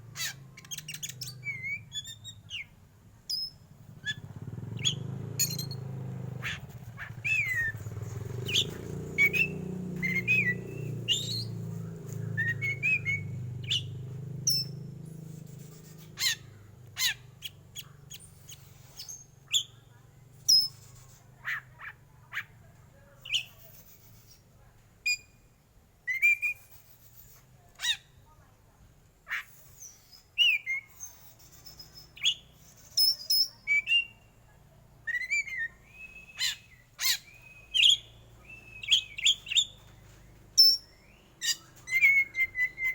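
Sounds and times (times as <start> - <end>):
magpie-robin singing: 0.1 - 28.4, 29.3 - 42.9.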